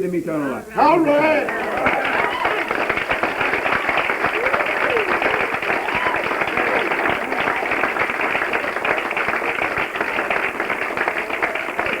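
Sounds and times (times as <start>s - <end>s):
audience applauding: 0.8s - 12.0s.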